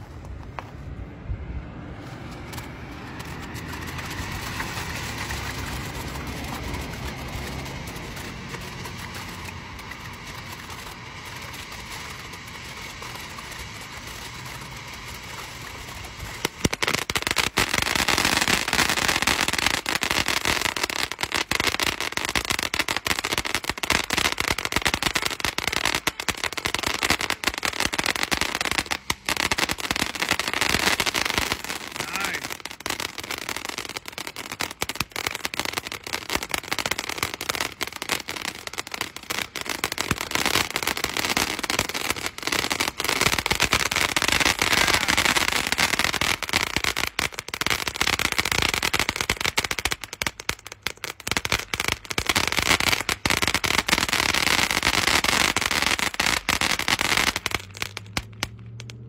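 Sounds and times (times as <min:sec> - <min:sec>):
firework crackling: 0:00.0 - 0:59.0
firework fountain hissing: 0:01.8 - 0:59.0.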